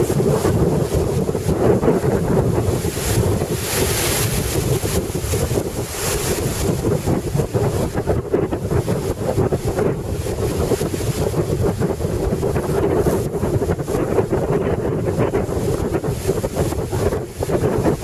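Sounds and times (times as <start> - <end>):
breaking surf: 0.0 - 18.0
wind buffeting microphone: 0.0 - 18.0.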